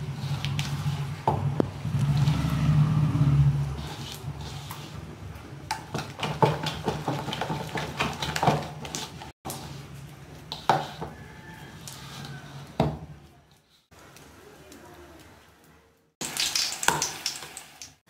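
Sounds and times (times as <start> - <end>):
hand mixing wet batter: 0.0 - 15.4.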